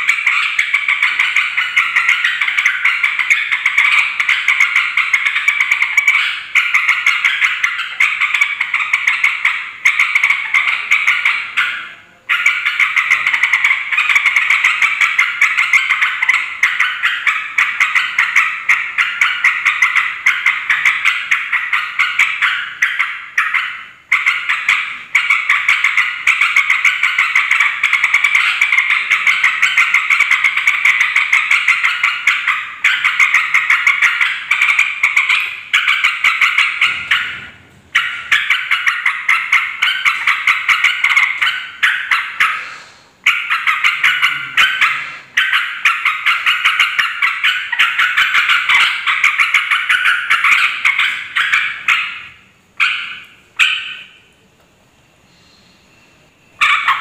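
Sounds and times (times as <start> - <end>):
bulbul chattering call: 0.0 - 54.2.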